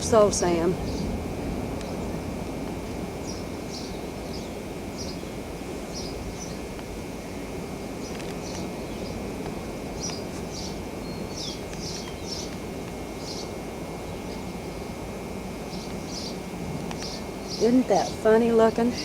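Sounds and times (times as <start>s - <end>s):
birds chirping: 0.0s - 19.0s
low outdoor rushing noise: 0.0s - 19.0s.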